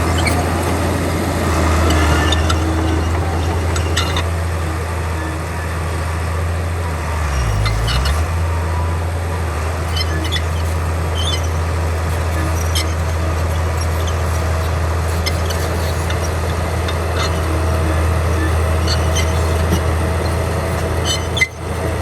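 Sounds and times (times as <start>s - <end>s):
high clicks and squeaks: 0.0s - 5.9s, 7.6s - 8.3s, 9.8s - 22.0s
bulldozer diesel engine: 0.0s - 22.0s.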